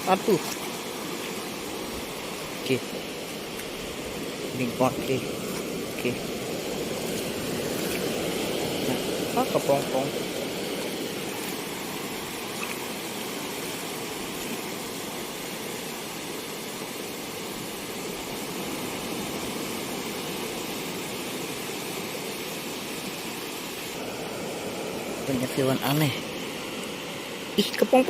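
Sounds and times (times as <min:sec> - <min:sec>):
sea surf breaking on rocks: 0:00.0 - 0:28.0.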